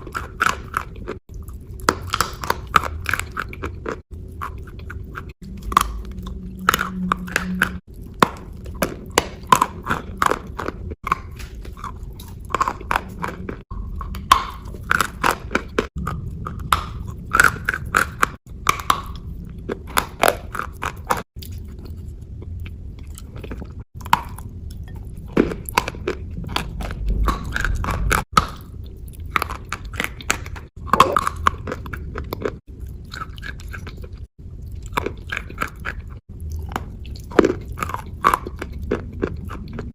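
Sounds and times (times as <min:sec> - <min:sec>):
wet pasty chewing: 0:00.0 - 0:39.9.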